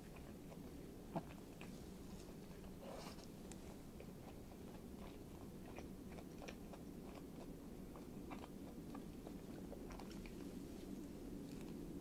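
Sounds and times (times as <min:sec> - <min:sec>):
person chewing crisp food: 0:00.0 - 0:11.9
steady low hum: 0:00.0 - 0:12.0.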